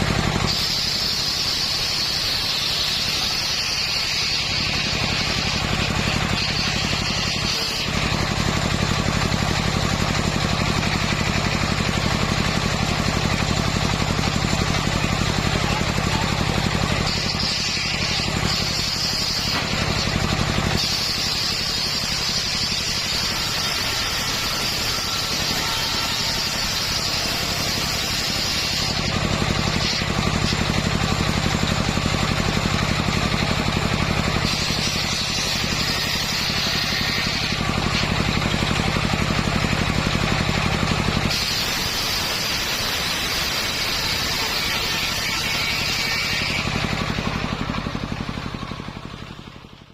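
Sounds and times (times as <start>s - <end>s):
sawmill engine running: 0.0s - 49.9s.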